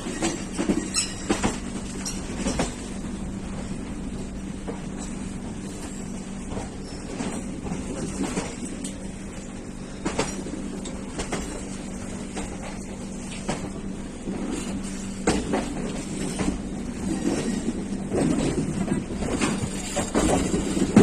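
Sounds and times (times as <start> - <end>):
train coach rumble and hum: 0.0 - 21.0
wheels clanking on rail joints: 0.0 - 21.0.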